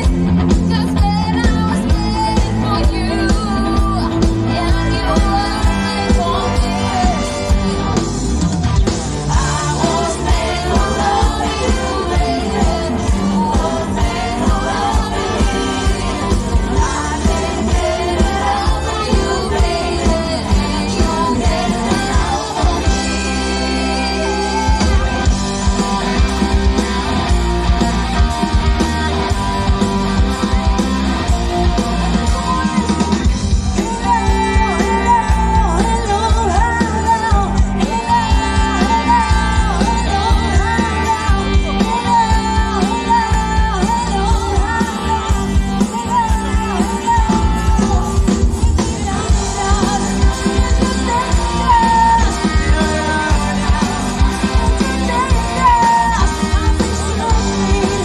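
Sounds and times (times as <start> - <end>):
person singing: 0.0 - 8.0, 9.2 - 26.9, 31.7 - 58.0
live band playing: 0.0 - 58.0
steady drum beat: 0.0 - 58.0.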